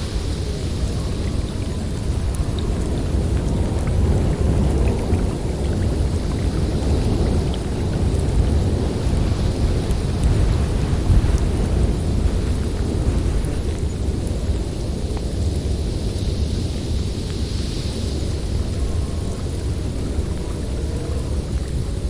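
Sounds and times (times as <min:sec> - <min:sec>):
snowstorm wind rumbling: 0:00.0 - 0:22.0.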